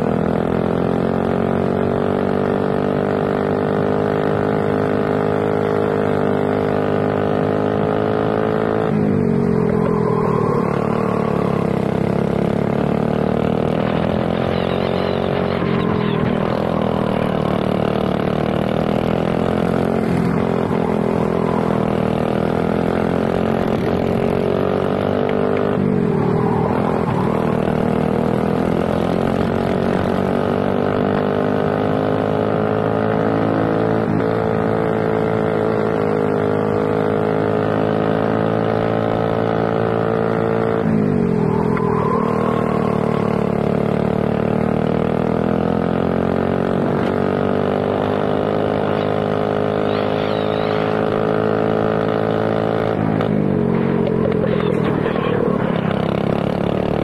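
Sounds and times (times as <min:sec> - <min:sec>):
kart engine at full throttle: 0:00.0 - 0:57.0.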